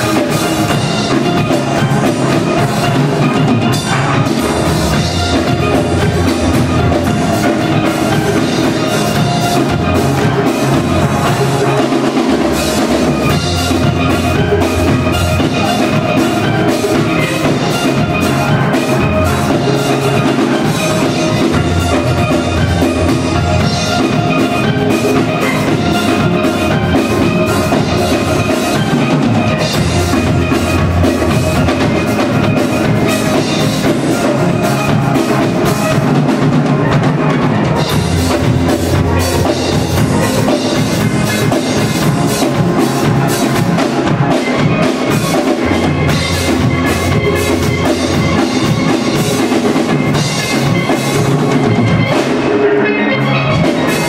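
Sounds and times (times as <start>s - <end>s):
drums: 0.0s - 54.0s
steel pan band playing: 0.0s - 54.0s.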